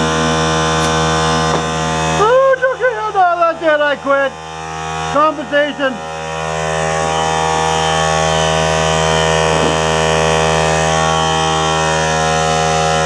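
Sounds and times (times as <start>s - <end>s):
electric air compressor running: 0.0s - 13.0s.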